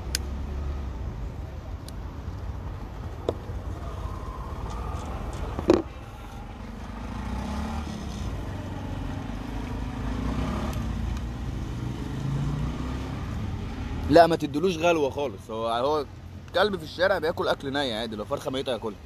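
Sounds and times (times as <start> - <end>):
cars and motorbikes passing: 0.0 - 19.0.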